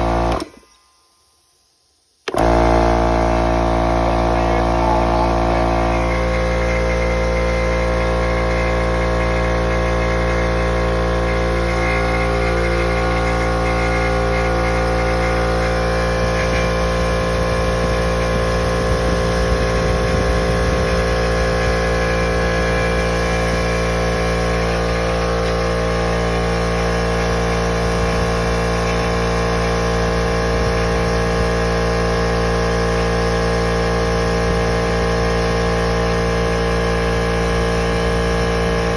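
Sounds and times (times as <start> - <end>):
air compressor motor drone: 0.0 - 0.9, 2.2 - 38.9.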